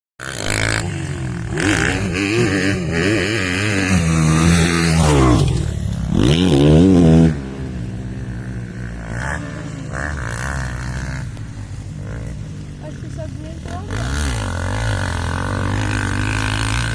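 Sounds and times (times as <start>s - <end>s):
dirt bike engine revving: 0.2s - 16.9s.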